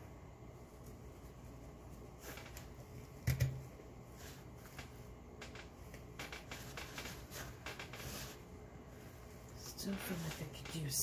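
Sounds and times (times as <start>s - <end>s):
artificial flower stems rustling: 0.3s - 11.0s.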